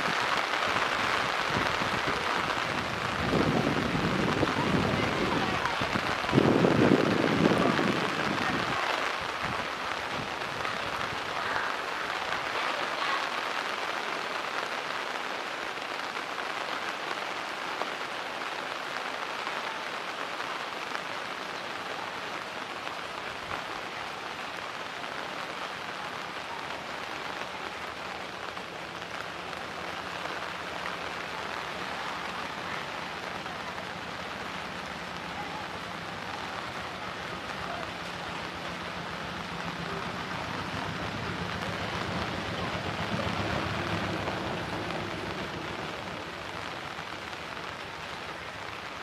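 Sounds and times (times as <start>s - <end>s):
heavy rain falling on water: 0.0s - 49.0s.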